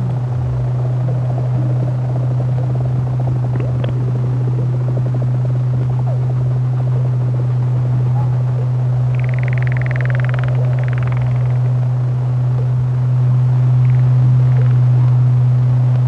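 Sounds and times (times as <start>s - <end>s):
crackle of small clicks: 0.0s - 7.7s, 8.5s - 12.8s, 13.7s - 16.0s
high buzzing pulsing call: 0.0s - 16.0s
low synthesizer drone: 0.0s - 16.0s.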